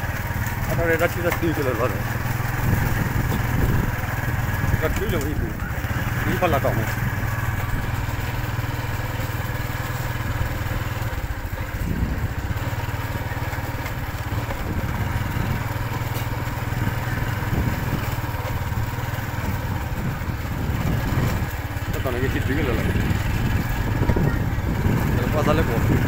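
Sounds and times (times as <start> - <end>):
small engine humming: 0.0 - 26.0.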